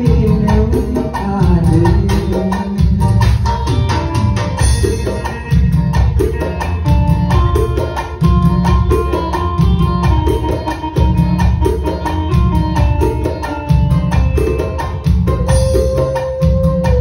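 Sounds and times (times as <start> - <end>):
drum and percussion rhythm: 0.0 - 17.0
keyboard melody: 0.0 - 17.0.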